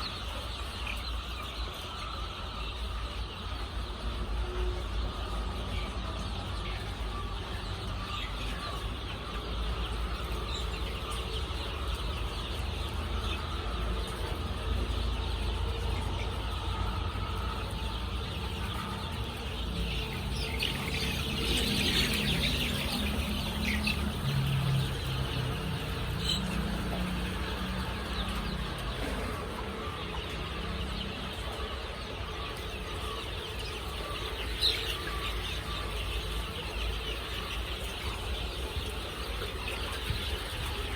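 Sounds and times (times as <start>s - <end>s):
chickens clucking and chirping: 0.0s - 40.9s.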